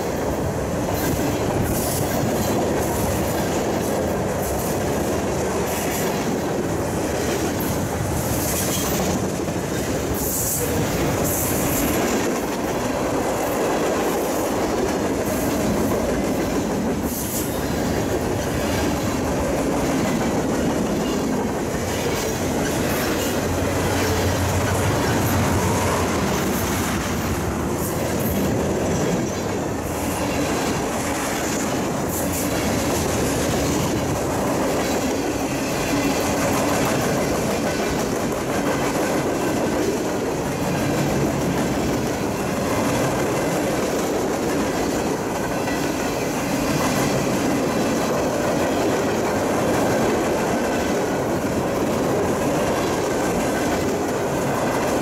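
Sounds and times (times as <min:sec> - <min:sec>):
freight train cars rolling past: 0:00.0 - 0:55.0
steel wheels clattering on rails: 0:00.0 - 0:55.0.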